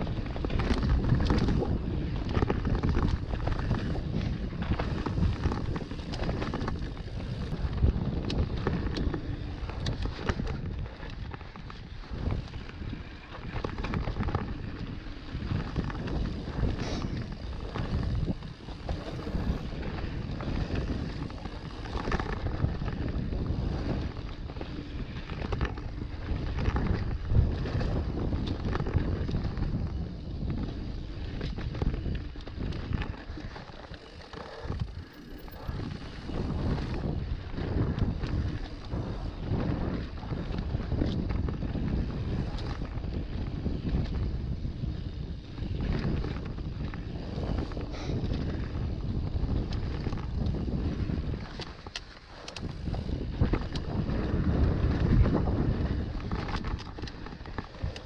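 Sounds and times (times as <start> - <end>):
tyres rolling on dirt trail: 0.0 - 58.0
wind buffeting microphone: 0.0 - 58.0.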